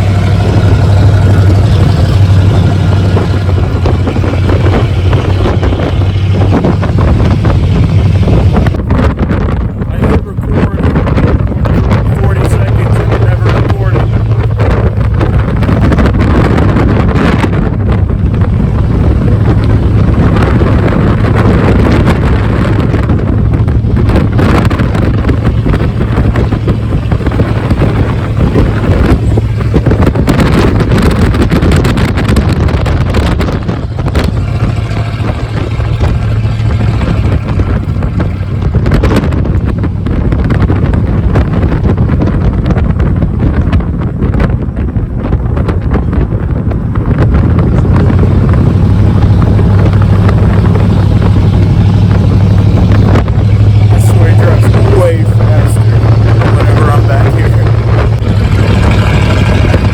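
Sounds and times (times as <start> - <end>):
truck engine low drone: 0.0 - 59.9
wind buffeting microphone: 0.0 - 59.9.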